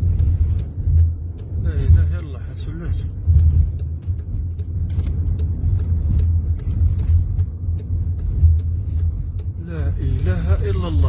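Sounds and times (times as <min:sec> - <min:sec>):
faint ticks: 0:00.0 - 0:11.0.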